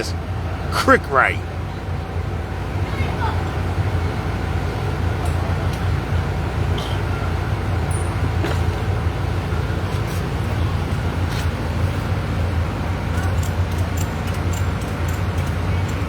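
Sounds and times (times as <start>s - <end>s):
street traffic: 0.0s - 16.0s
vehicle engine running: 0.0s - 16.0s.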